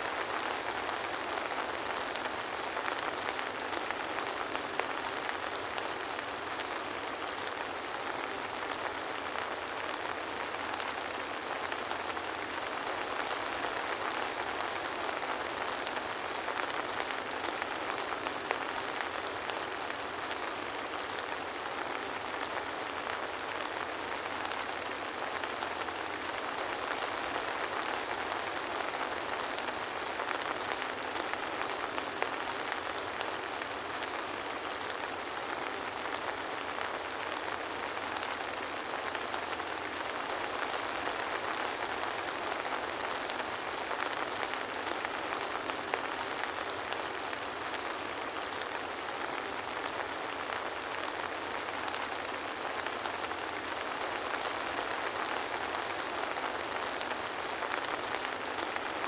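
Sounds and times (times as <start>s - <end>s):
soft rain pattering: 0.0s - 59.0s.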